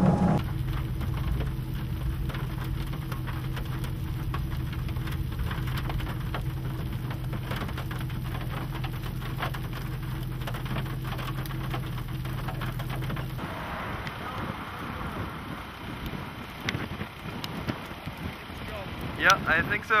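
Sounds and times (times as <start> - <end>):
low hum: 0.0 - 17.0
raindrops ticking: 0.4 - 20.0.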